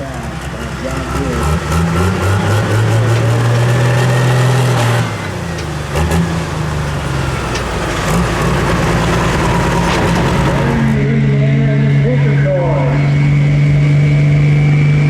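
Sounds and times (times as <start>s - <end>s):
diesel engine running hard: 0.0s - 15.0s.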